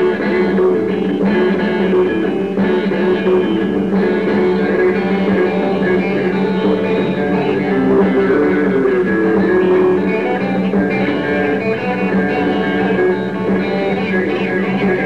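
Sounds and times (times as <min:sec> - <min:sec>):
electric guitar picked melody: 0:00.0 - 0:15.0.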